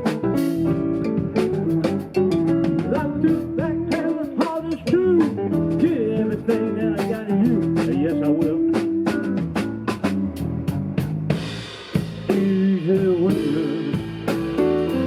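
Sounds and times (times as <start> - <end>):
bass guitar: 0.0 - 15.0
drum kit steady beat: 0.0 - 15.0
electric guitar lead with bends: 0.0 - 15.0.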